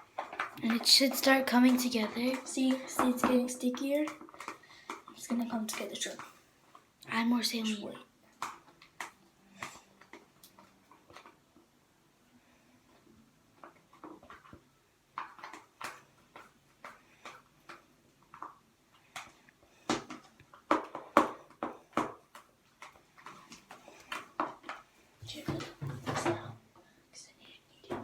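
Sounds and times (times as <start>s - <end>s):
wet clicks of slime mixing: 0.0s - 11.6s, 13.5s - 25.4s.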